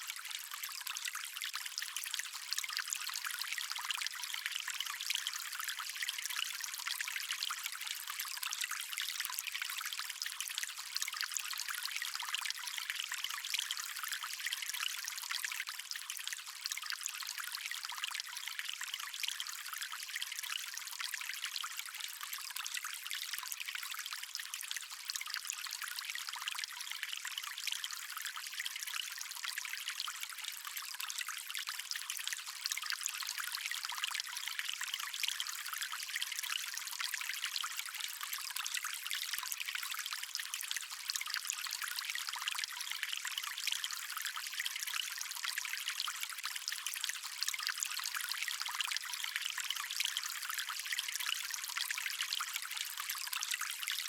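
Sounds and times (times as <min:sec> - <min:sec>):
stream water splashing and trickling: 0:00.0 - 0:54.0.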